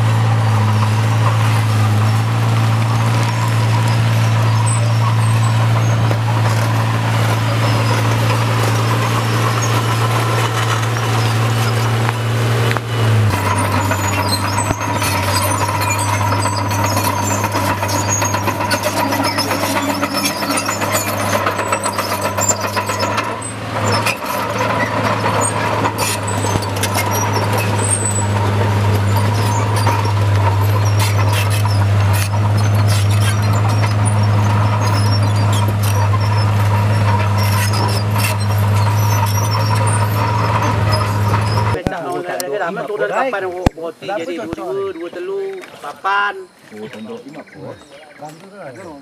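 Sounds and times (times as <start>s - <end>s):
bulldozer diesel engine running: 0.0s - 45.4s
steel tracks clattering: 0.1s - 41.8s.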